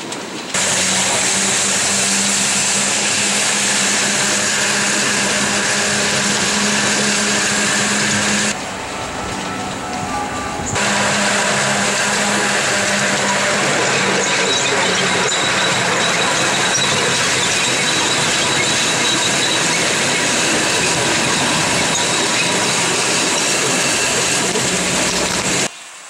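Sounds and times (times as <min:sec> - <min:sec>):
train wheels rumbling on rail: 0:00.0 - 0:25.8
high whine: 0:00.6 - 0:25.7.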